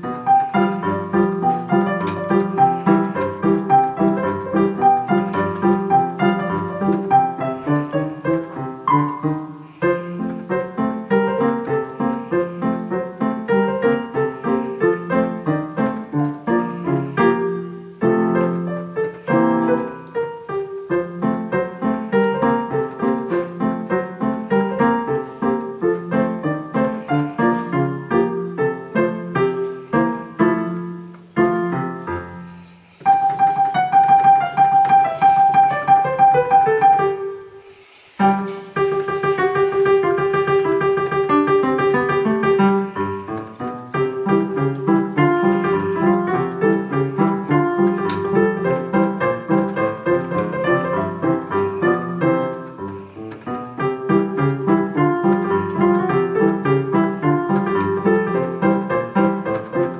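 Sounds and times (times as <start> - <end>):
digital piano ragtime piece: 0.0 - 59.9.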